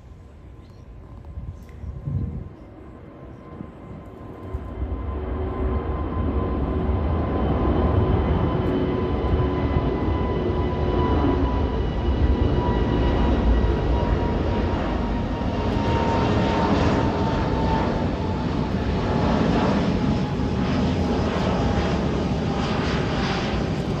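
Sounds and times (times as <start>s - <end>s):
faint engine whine: 0.0s - 24.0s
jet engines roaring at takeoff: 0.0s - 24.0s.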